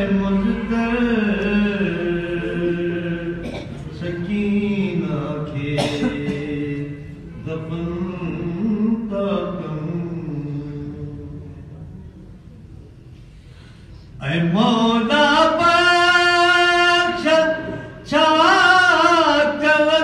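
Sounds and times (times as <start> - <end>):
man chanting unaccompanied: 0.0 - 11.8, 14.2 - 20.0.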